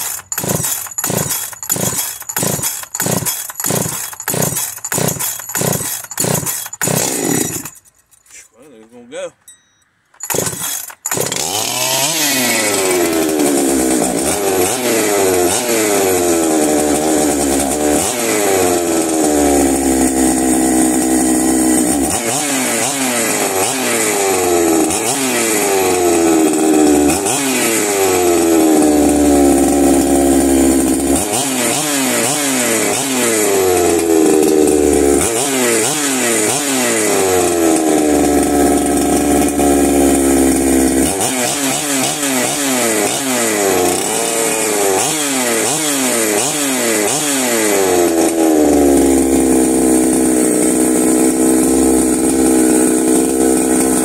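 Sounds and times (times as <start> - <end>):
chainsaw revving: 0.0 - 7.8, 10.2 - 54.0.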